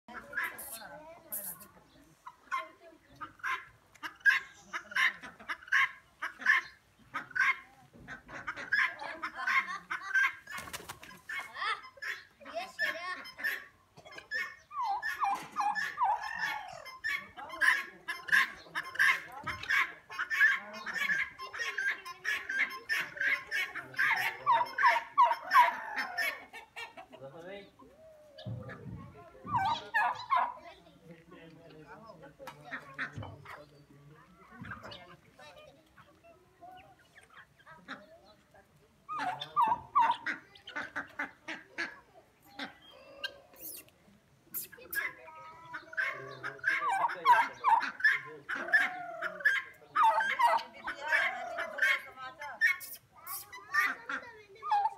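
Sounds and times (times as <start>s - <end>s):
turkeys and chickens calling: 0.1s - 54.9s.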